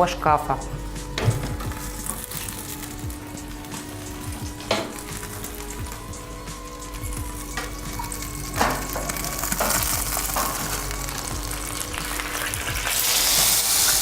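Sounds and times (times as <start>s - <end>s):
food sizzling in metal cookware: 0.6s - 14.0s.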